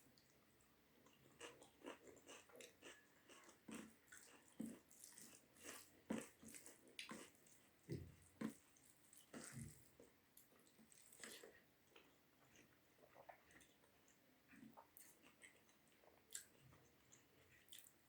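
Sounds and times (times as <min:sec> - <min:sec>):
wet chewing and mouth sounds: 0:01.0 - 0:18.0.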